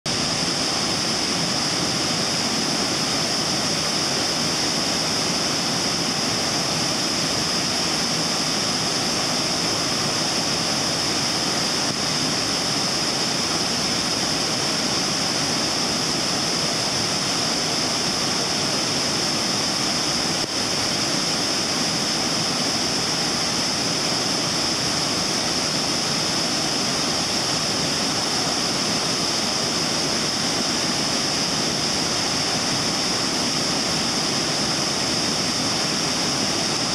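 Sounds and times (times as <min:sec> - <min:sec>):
waterfall rushing: 0:00.1 - 0:36.9.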